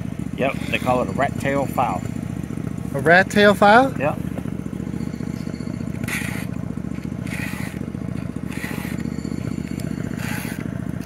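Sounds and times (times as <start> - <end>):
engine running steadily: 0.0 - 11.0
file scraping chainsaw chain: 0.4 - 2.6, 3.2 - 11.0.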